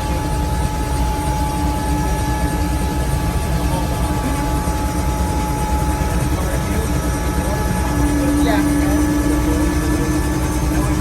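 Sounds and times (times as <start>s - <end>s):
helicopter rotor and engine rumble: 0.0s - 11.0s
high turbine whine: 0.0s - 11.0s.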